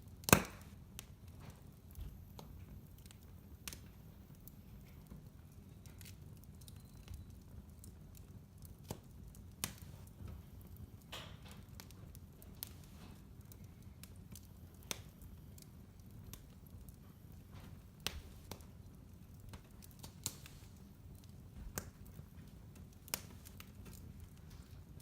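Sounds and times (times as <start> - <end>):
fire crackles and pops: 0.0 - 25.0
fire flames rumbling: 0.0 - 25.0.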